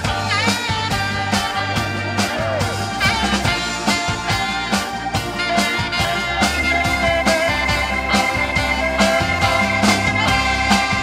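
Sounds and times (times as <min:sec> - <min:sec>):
drum kit steady beat: 0:00.0 - 0:11.0
electric bass: 0:00.0 - 0:11.0
keyboards: 0:00.0 - 0:11.0
saxophone: 0:00.0 - 0:11.0.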